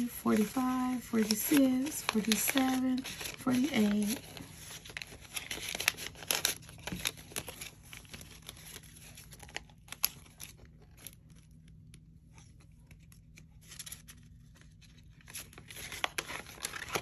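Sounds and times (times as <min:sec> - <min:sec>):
paper banknotes rustling: 0:00.0 - 0:11.5, 0:12.2 - 0:17.0
plastic envelope crinkling: 0:00.0 - 0:17.0.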